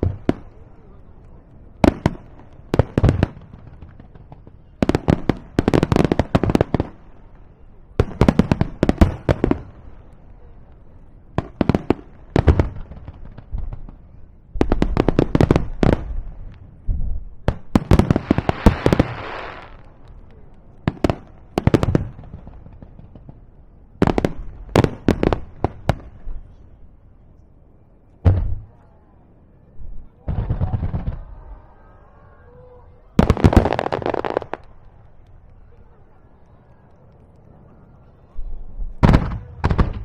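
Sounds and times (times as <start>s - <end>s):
fireworks bursting: 0.0s - 26.6s, 28.2s - 28.8s, 30.2s - 40.0s
crackling hiss of fireworks: 0.0s - 40.0s.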